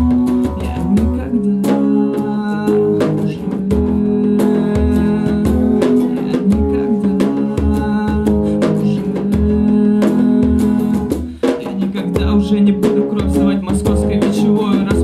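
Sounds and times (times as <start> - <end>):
guitar strumming: 0.0 - 15.0.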